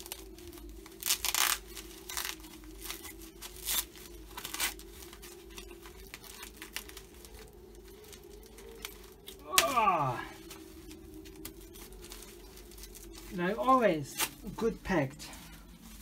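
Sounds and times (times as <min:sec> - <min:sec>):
paper wrapping tearing and crinkling: 0:00.0 - 0:16.0.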